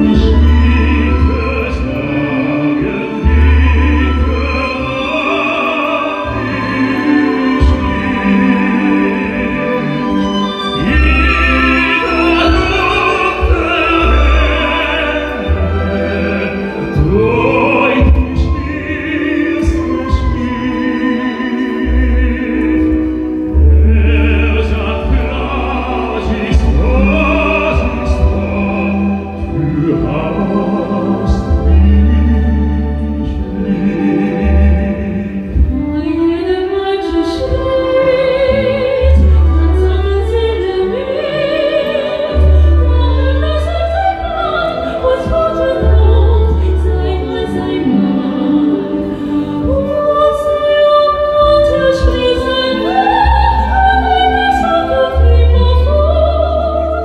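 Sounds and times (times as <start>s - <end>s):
orchestral accompaniment: 0.0s - 57.0s
tenor singing opera: 0.0s - 57.0s.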